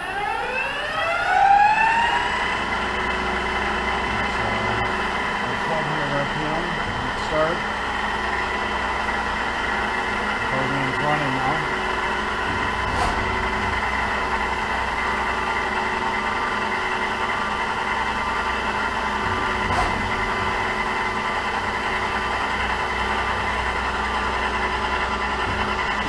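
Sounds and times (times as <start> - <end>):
lathe spindle humming and whining: 0.0 - 26.0.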